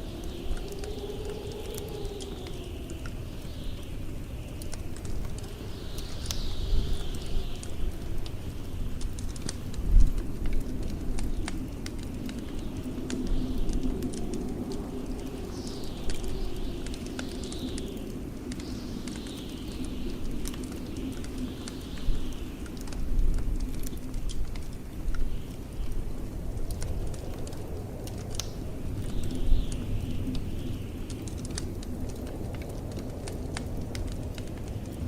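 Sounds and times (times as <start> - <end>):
blizzard wind: 0.0 - 35.0
wood fire crackling: 0.0 - 35.0.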